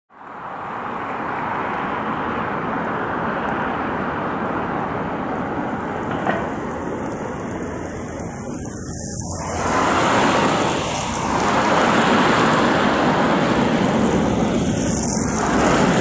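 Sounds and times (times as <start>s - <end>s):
freight train rushing: 1.4s - 16.0s.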